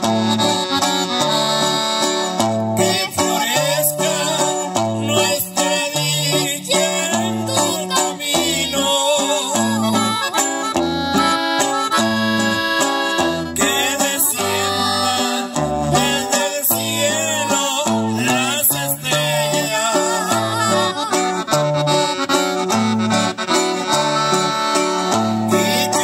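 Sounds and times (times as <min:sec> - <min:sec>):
accordion melody: 0:00.0 - 0:26.0
bass line: 0:00.0 - 0:26.0
strummed guitar: 0:00.0 - 0:26.0.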